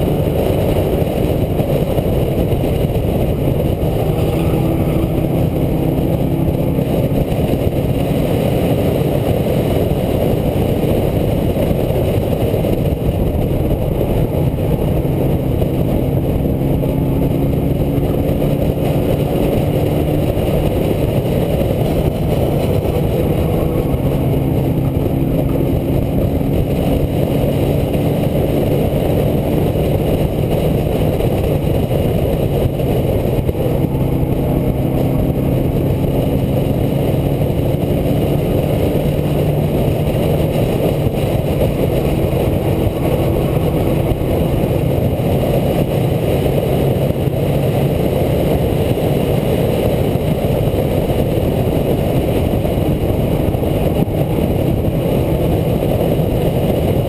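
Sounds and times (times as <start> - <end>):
truck engine running hard: 0.0 - 57.0.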